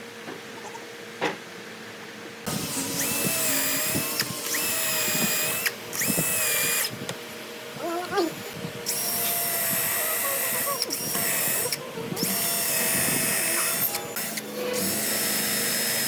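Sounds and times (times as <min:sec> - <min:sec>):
power tool running: 0:02.5 - 0:16.0.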